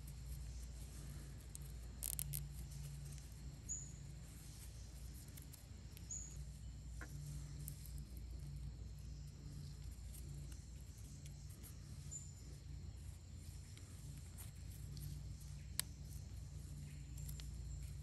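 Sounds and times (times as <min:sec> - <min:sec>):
cord crackling in hands: 0:00.0 - 0:18.0
quiet outdoor ambience: 0:00.0 - 0:18.0.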